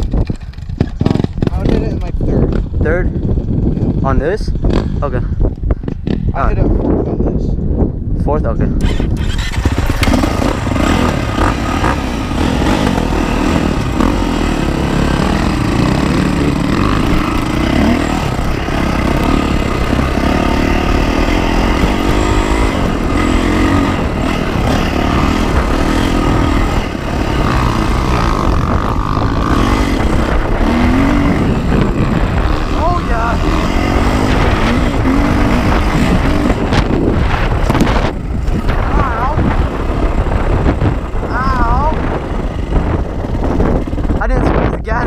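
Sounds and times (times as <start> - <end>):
motorcycle engine revving: 0.0 - 6.6, 8.8 - 44.4
wind rumbling on microphone: 0.0 - 45.0.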